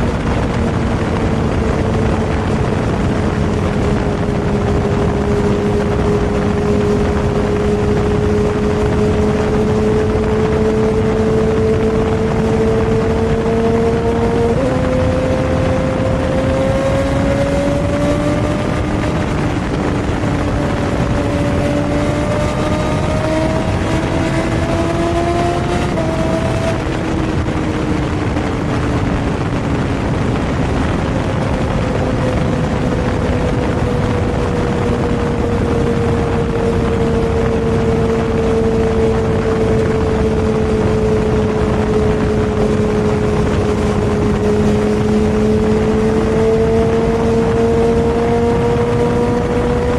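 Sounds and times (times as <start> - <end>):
heavy wind rush: 0.0 - 49.9
motorcycle engine cruising: 0.0 - 49.9.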